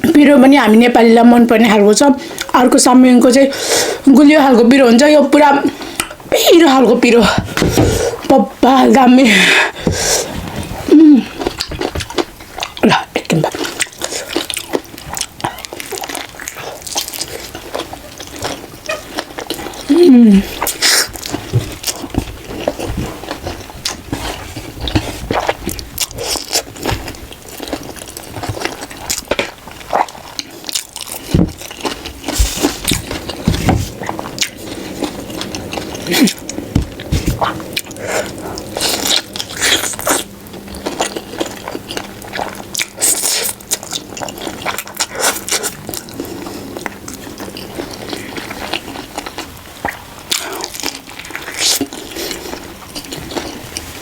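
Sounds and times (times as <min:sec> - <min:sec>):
crunchy chewing: 0:09.7 - 0:54.0.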